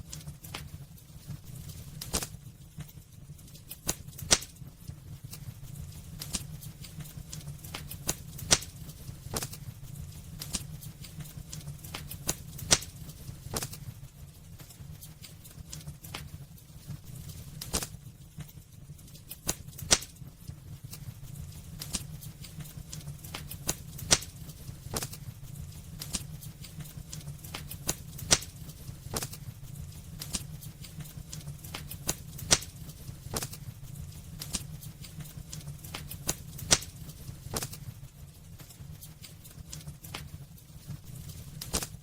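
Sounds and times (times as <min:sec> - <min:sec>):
low fire rumble: 0:00.0 - 0:42.0
wood fire crackling and popping: 0:00.0 - 0:42.0.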